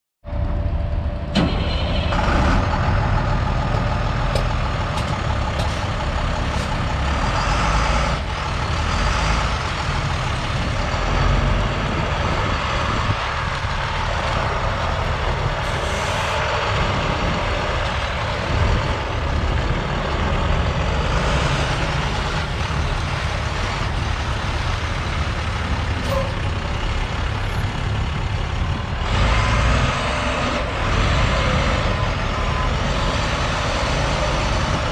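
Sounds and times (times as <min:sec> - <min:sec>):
diesel engine idling: 0:00.3 - 0:34.9.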